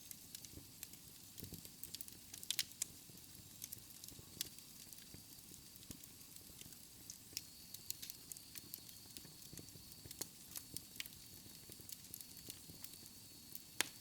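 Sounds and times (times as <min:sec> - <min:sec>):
faint hiss: 0:00.0 - 0:14.0
wood fire crackling and popping: 0:00.0 - 0:14.0.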